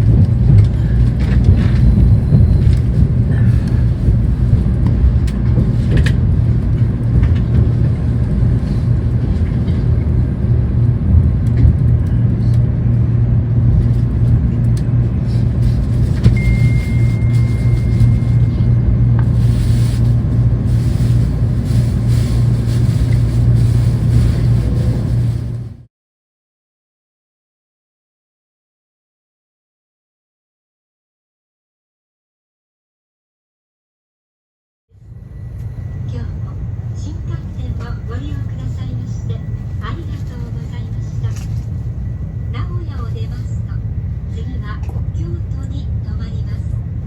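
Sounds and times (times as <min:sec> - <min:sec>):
steady low hum: 0:00.0 - 0:25.9, 0:35.0 - 0:47.0
train running at speed: 0:00.0 - 0:25.9, 0:35.0 - 0:47.0.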